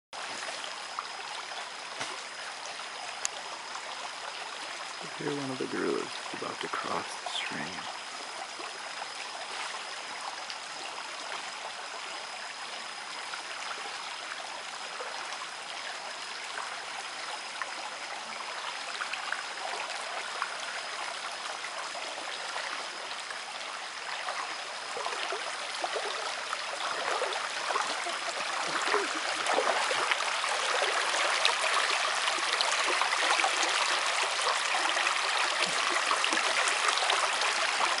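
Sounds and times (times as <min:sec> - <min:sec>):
small water splashes: 0:00.2 - 0:12.4, 0:17.6 - 0:38.0
stream flowing and trickling: 0:00.2 - 0:38.0.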